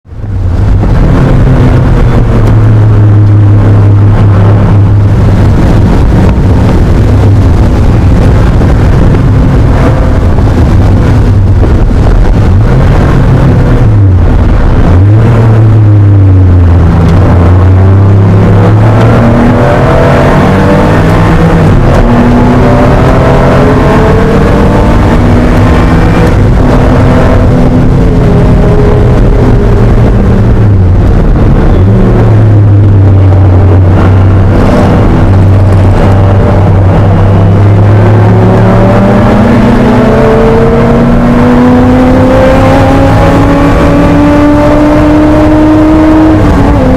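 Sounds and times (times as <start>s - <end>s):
engine racing at high revs: 0.0s - 46.9s.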